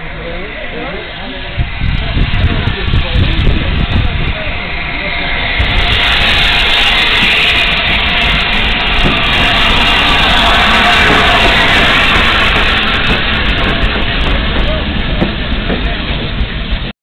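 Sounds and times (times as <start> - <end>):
train wheels rumbling past: 0.0 - 16.9.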